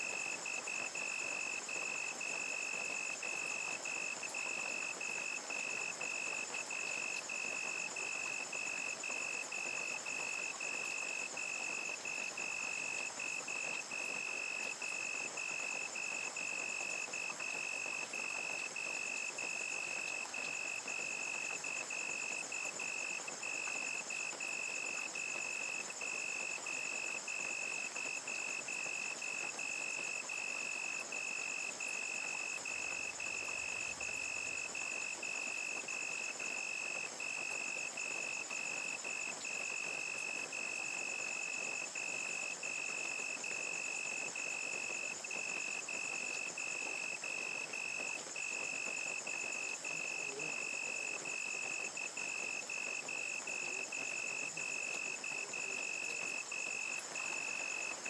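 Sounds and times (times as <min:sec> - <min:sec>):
crickets chirping: 0:00.0 - 0:58.0
insect trill: 0:00.0 - 0:58.0
rain hissing: 0:00.0 - 0:58.0.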